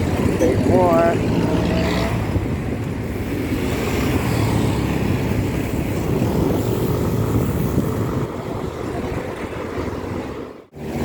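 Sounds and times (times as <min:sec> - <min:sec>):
traffic engines: 0:00.0 - 0:11.0
wind on microphone: 0:00.0 - 0:11.0.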